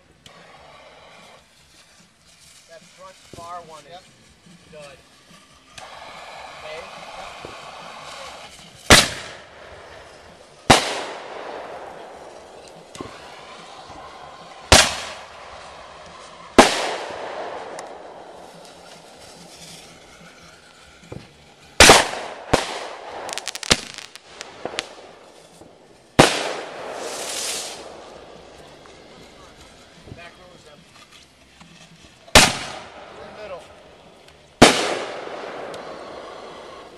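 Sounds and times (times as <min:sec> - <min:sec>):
firework bangs: 0:00.0 - 0:36.9
firework hiss: 0:00.0 - 0:36.9.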